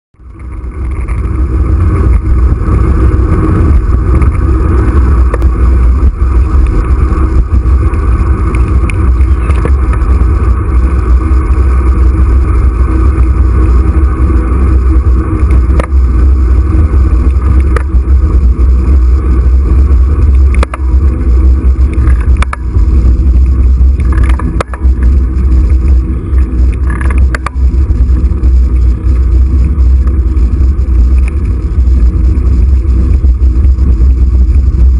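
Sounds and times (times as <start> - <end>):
wind rumble on microphone: 0.2 - 34.9.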